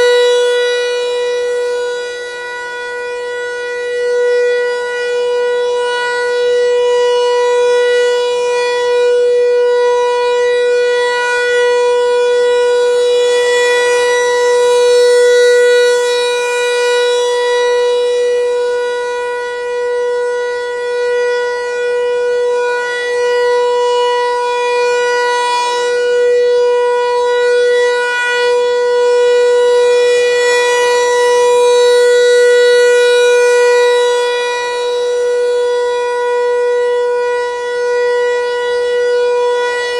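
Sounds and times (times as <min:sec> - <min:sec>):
fainter lower siren tone: 0:00.0 - 0:39.9
outdoor warning siren: 0:00.0 - 0:39.9.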